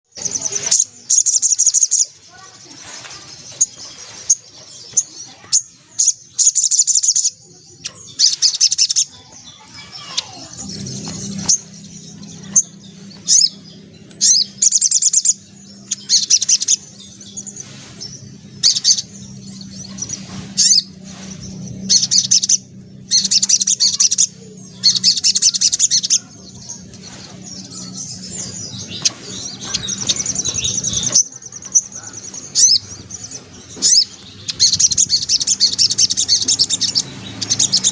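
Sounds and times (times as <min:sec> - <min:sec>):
soft bird twittering: 0:00.0 - 0:37.9
bird chattering trills: 0:00.1 - 0:37.9
low steady hum: 0:06.0 - 0:37.9.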